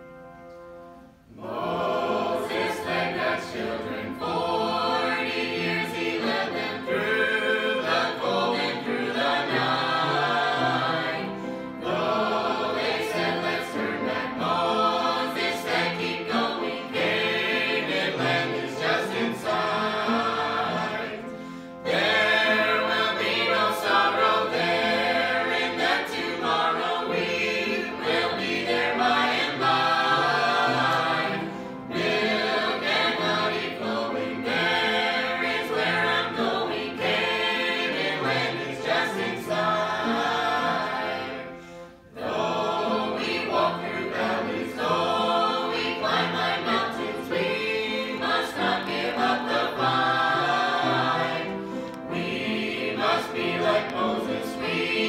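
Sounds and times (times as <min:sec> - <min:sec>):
group singing gospel in harmony: 0:01.3 - 0:55.0.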